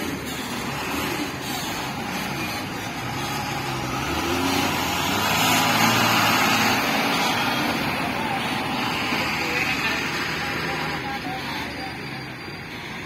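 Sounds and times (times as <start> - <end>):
diesel truck driving past: 0.0 - 13.0.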